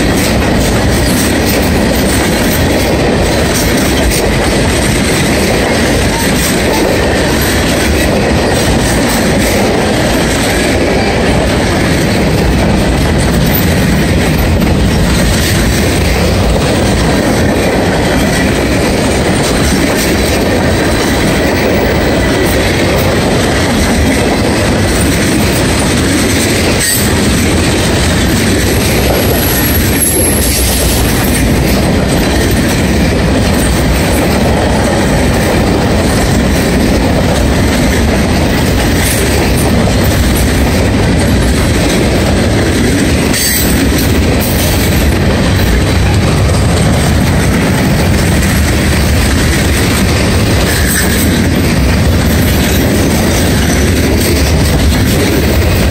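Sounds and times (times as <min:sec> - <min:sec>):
steel wheels rumbling on rails: 0:00.0 - 0:55.9
wheels clacking over rail joints: 0:00.0 - 0:55.9.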